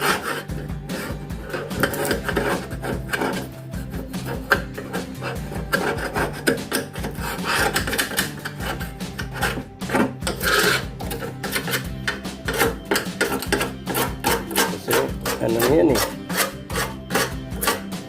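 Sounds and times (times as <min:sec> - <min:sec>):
rasping scouring on metal: 0:00.0 - 0:18.0.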